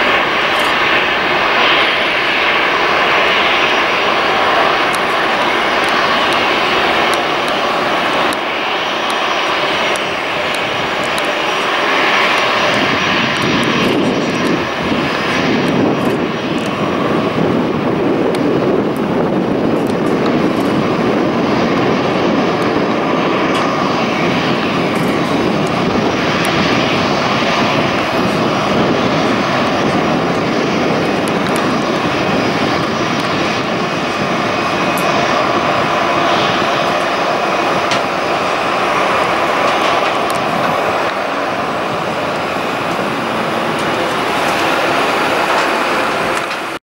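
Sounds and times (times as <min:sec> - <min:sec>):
jet engines roaring at takeoff: 0:00.0 - 0:46.8.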